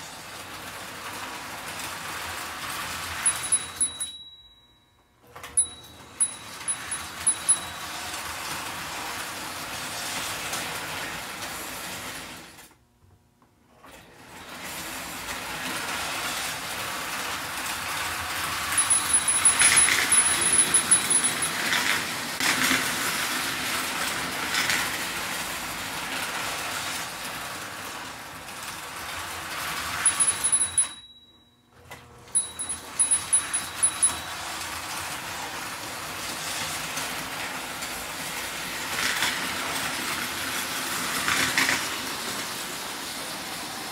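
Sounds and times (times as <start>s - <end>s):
toy train motor whir: 0.1s - 4.3s, 5.5s - 12.4s, 14.4s - 31.1s, 32.4s - 43.9s
wheels rattling on rails: 0.1s - 4.8s, 5.4s - 12.4s, 14.2s - 31.3s, 32.3s - 43.9s.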